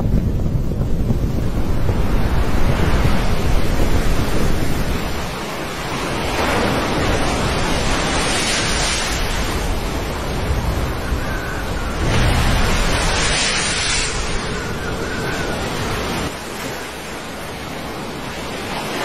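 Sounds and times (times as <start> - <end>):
wind buffeting microphone: 0.0 - 19.0
waves breaking against ship: 0.1 - 19.0.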